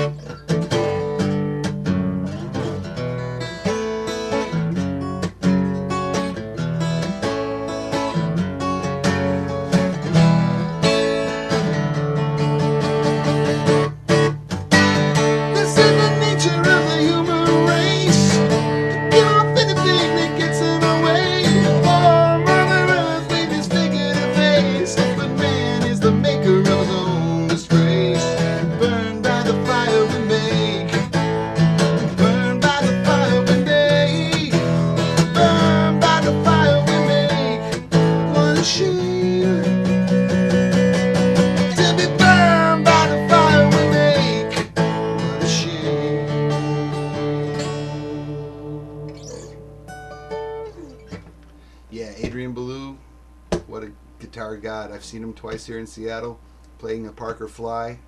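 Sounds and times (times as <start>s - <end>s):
acoustic guitar strummed and picked: 0.0s - 52.9s.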